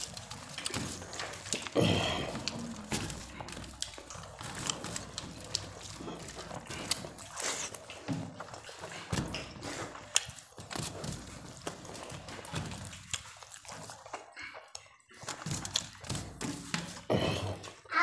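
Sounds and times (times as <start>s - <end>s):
chewing and mixing food: 0.0s - 18.0s.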